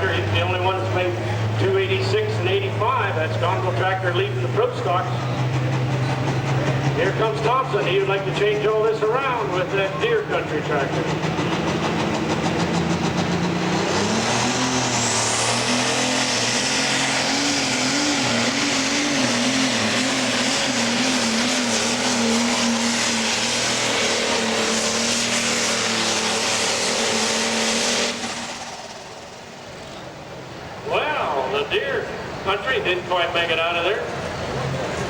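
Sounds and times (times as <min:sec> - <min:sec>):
diesel tractor engine at full power: 0:00.0 - 0:35.0.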